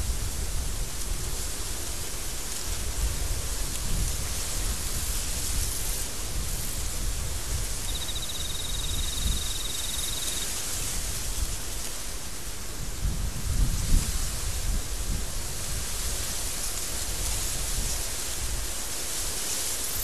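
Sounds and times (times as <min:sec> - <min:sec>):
storm wind blowing: 0:00.0 - 0:11.8, 0:12.4 - 0:18.8.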